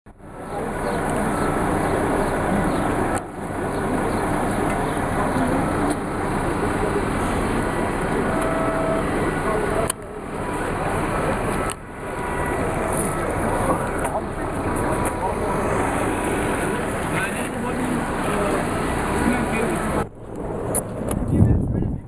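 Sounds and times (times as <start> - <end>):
heavy lorries running: 0.1 - 22.0
background voices: 0.3 - 20.1.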